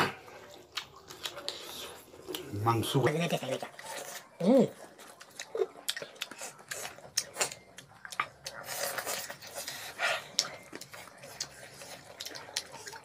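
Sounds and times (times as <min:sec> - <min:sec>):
wet chewing: 0:00.2 - 0:13.0.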